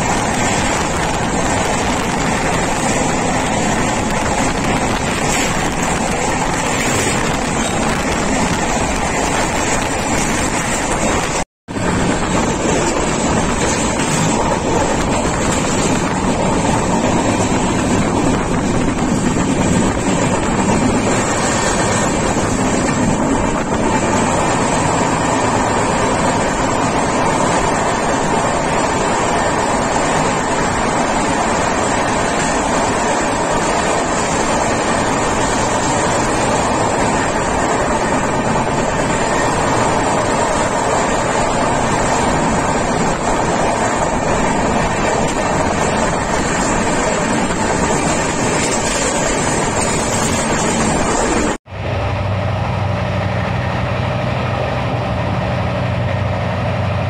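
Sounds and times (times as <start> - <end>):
train wheels on rails: 0.0 - 57.0
wind rushing past train: 0.0 - 57.0.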